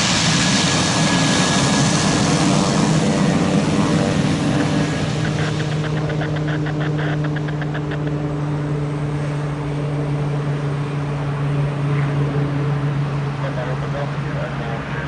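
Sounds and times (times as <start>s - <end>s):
propeller aircraft engine humming: 0.0s - 15.0s.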